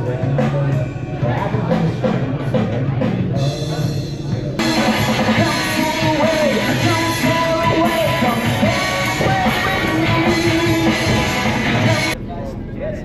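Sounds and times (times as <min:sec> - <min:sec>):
rock music with singing: 0:00.0 - 0:12.2.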